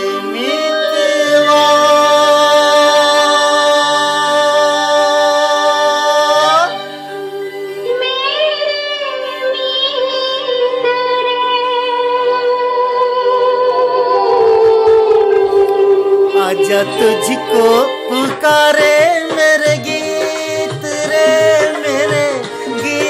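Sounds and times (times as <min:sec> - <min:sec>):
song with held note and melody: 0:00.0 - 0:23.0.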